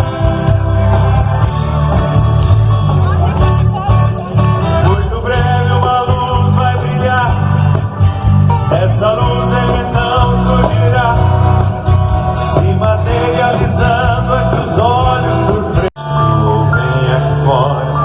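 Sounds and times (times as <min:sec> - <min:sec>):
live pop-country band: 0:00.0 - 0:18.0.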